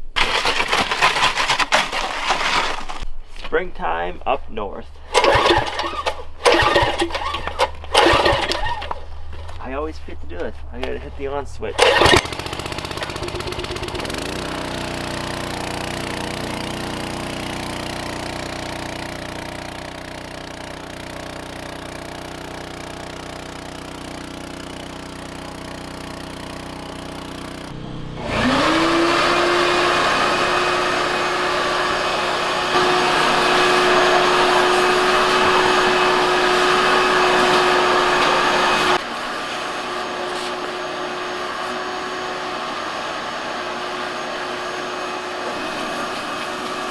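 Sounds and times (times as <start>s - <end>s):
vacuum cleaner motor whining: 0.0s - 3.1s, 5.0s - 19.8s, 25.2s - 46.9s
generator humming: 0.0s - 46.9s.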